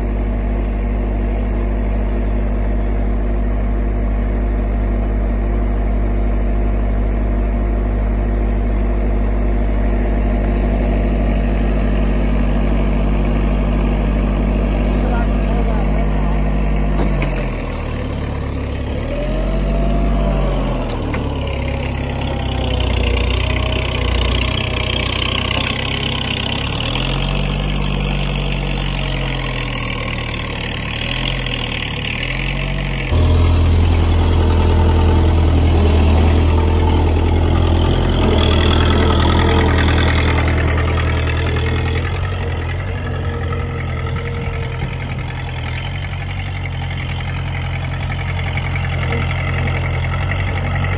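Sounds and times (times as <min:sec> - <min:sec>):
diesel engine revving: 0:07.4 - 0:50.9.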